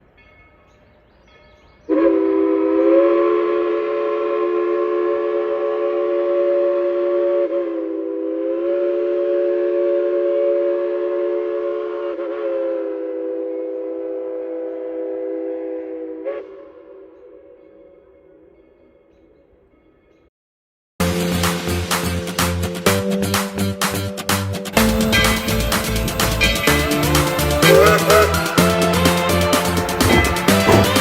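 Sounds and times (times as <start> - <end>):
steam locomotive chime whistle: 0.1 - 20.0, 24.8 - 31.0.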